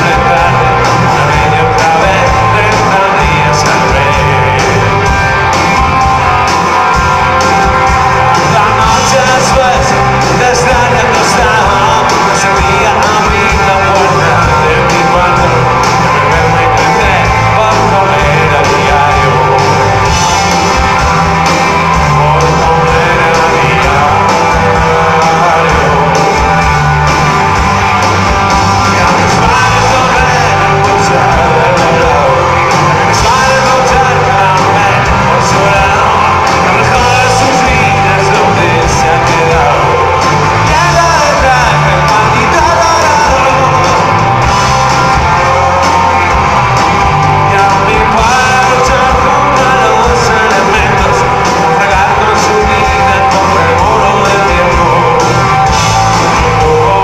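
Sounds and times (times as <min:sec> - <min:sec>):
live rock band playing: 0:00.0 - 0:57.0
man singing lead vocal: 0:00.0 - 0:57.0.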